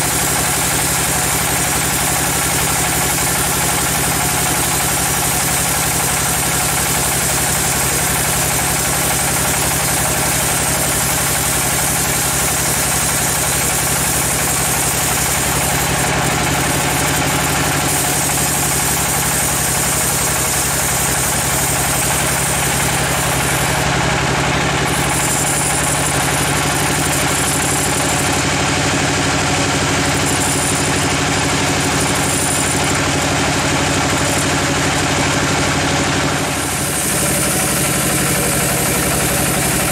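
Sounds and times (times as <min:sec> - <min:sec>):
band saw machine hum: 0:00.0 - 0:39.9
saw blade rasping through wood: 0:00.0 - 0:39.9.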